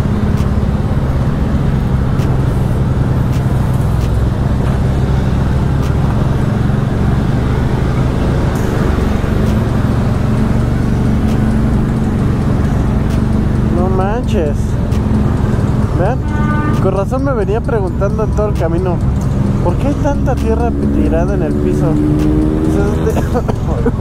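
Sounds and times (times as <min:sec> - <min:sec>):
motorcycle engine running: 0:00.0 - 0:24.0
traffic rumble: 0:00.0 - 0:24.0.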